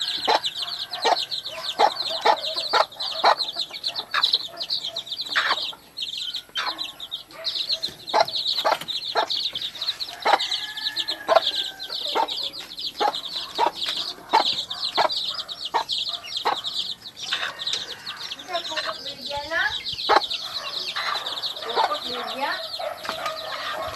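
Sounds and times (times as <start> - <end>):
chicks peeping: 0.0 - 23.9
hen clucking: 0.0 - 23.9.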